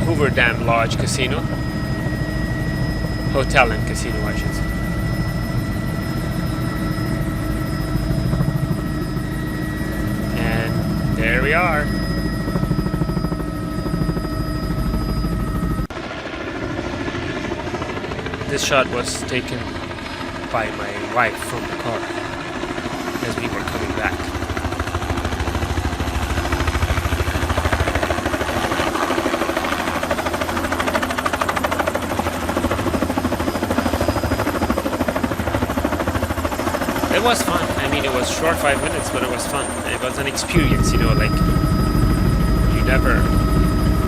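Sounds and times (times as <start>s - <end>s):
helicopter engine and rotor drone: 0.0s - 44.0s.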